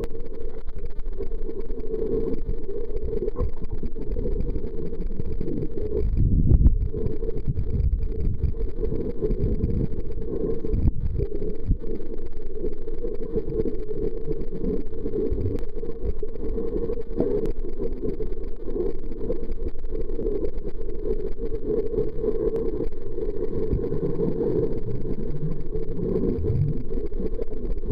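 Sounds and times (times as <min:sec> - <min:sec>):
muffled underwater rumble: 0:00.0 - 0:27.9.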